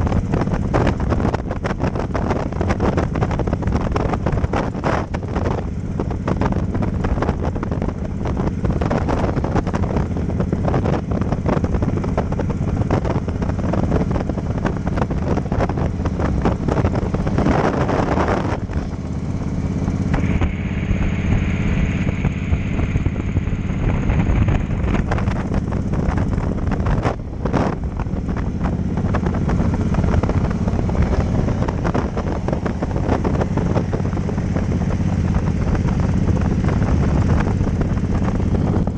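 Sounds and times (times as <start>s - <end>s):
high steady whine: 0.0s - 38.9s
motorcycle engine running: 0.0s - 38.9s
wind rushing over microphone: 0.0s - 38.9s.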